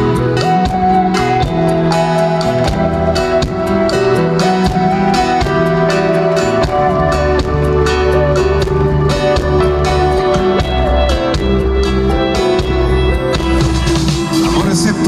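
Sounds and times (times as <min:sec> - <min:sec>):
live rock band instrumental: 0:00.0 - 0:15.0.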